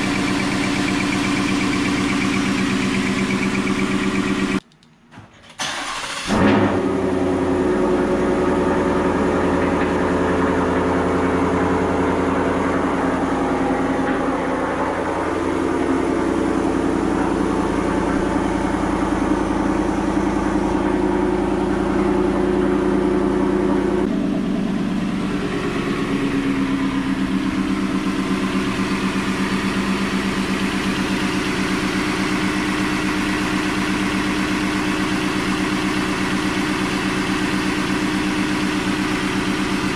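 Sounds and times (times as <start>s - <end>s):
car engine idling: 0.0s - 4.6s, 5.7s - 39.9s.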